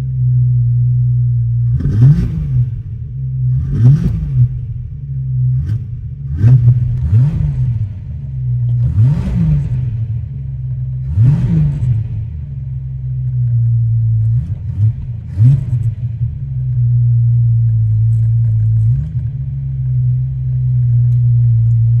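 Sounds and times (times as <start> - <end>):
car engine revving: 0.6 - 22.0.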